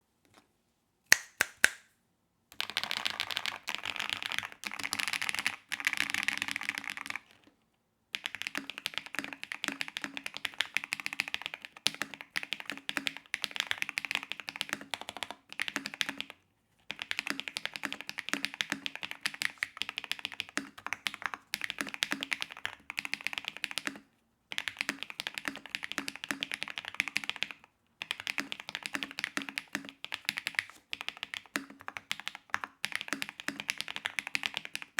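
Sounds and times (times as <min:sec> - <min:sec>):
fast typing on mechanical keyboard: 0:02.6 - 0:07.4, 0:08.2 - 0:34.9.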